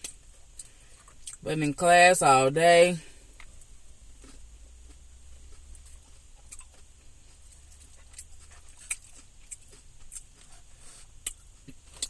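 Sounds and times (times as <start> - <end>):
wet chewing and mouth smacks: 0.0 - 1.4, 3.4 - 12.0
faint low hum: 0.0 - 12.0.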